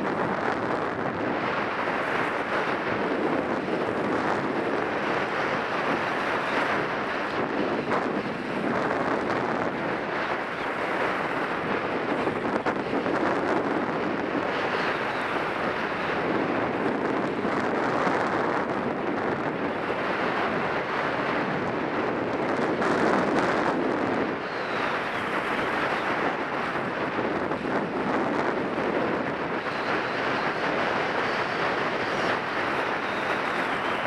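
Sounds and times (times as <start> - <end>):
wind on microphone: 0.0 - 34.0.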